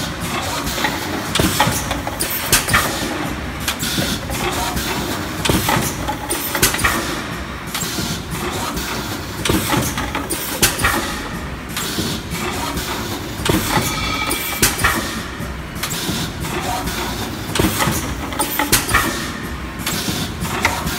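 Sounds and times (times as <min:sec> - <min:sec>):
machine mechanical din: 0:00.0 - 0:20.9
sharp clicks and knocks: 0:00.7 - 0:20.9.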